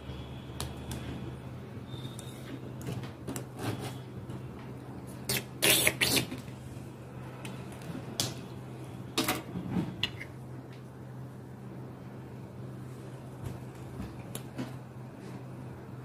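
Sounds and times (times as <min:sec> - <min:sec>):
steady low hum: 0:00.0 - 0:05.6, 0:06.3 - 0:16.0.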